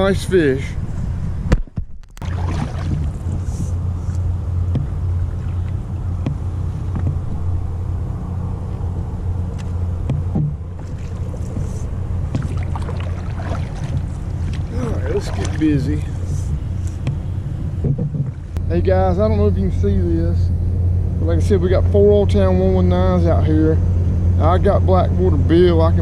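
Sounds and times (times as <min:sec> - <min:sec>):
outdoor noise: 0:00.0 - 0:26.0
wind rumble on microphone: 0:00.0 - 0:26.0.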